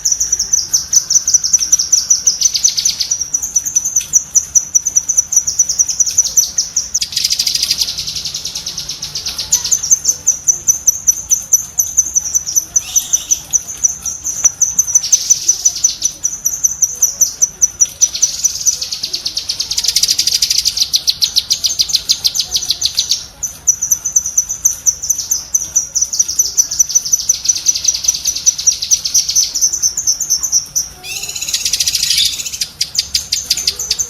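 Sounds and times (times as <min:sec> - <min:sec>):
bird singing rapid sharp notes: 0:00.0 - 0:34.0.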